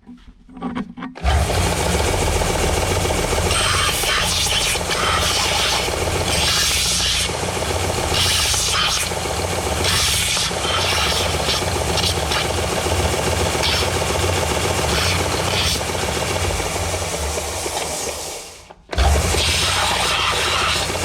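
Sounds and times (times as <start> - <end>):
metal rasping against grinder: 1.2 - 17.0, 19.0 - 21.0
grinding tool motor running: 1.2 - 21.0.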